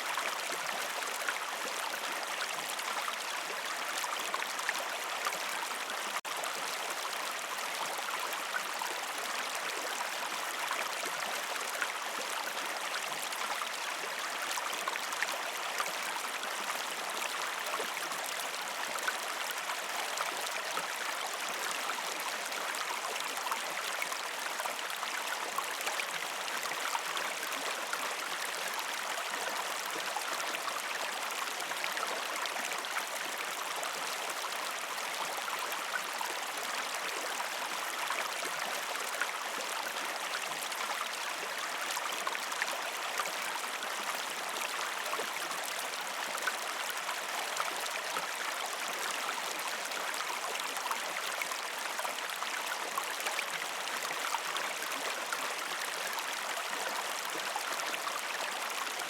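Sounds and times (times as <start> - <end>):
stream water flowing over rocks: 0.0 - 59.0.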